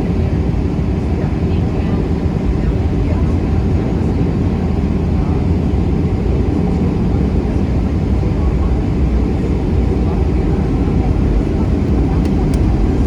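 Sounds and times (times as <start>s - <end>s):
jet engine cabin roar: 0.0s - 13.0s.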